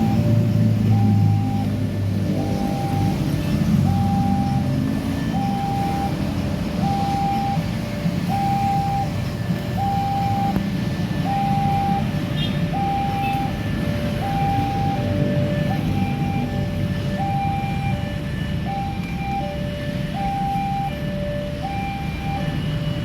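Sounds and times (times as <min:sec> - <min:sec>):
low rumble of traffic: 0:00.0 - 0:23.0
two-tone crossing alarm: 0:00.0 - 0:23.0.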